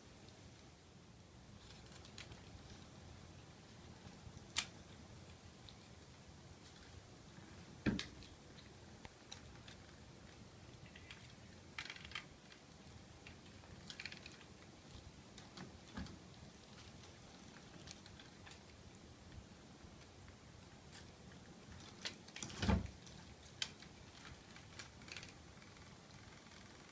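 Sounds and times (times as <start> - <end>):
faint room noise: 0.0 - 26.9.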